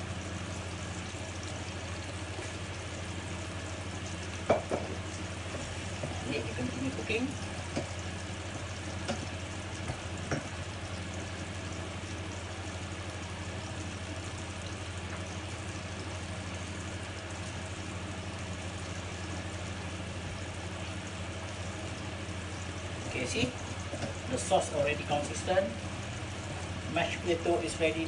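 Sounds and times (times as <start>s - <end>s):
constant low hum: 0.0s - 28.0s
fish frying in a pan: 0.0s - 28.0s.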